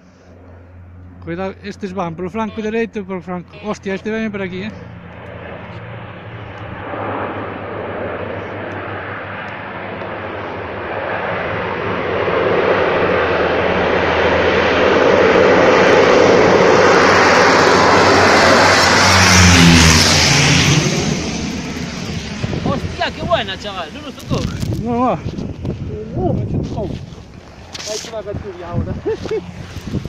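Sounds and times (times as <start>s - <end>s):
propeller plane flying overhead: 0.0s - 30.0s.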